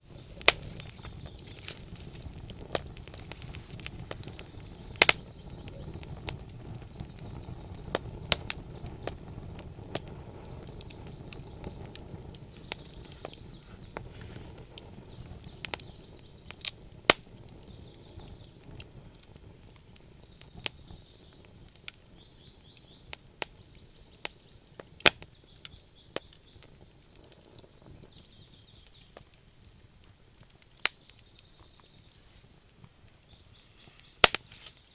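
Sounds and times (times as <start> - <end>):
low rumble of flame: 0.0 - 34.9
wood fire crackling and popping: 0.0 - 34.9.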